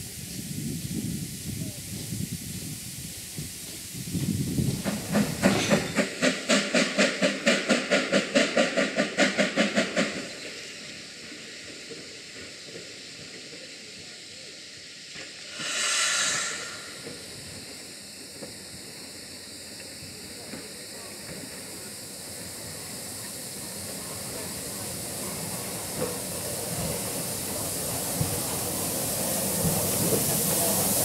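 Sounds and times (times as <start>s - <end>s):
steam hissing: 0.0s - 31.0s
steam locomotive chuffing: 0.0s - 31.0s.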